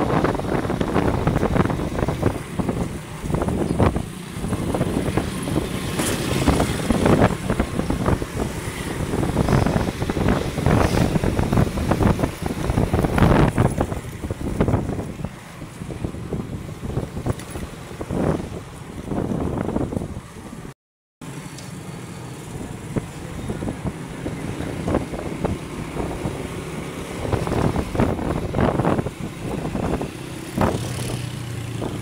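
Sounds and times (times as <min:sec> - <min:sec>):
wind buffeting microphone: 0:00.0 - 0:20.7, 0:22.5 - 0:32.0
motorbike ride rush: 0:00.0 - 0:32.0.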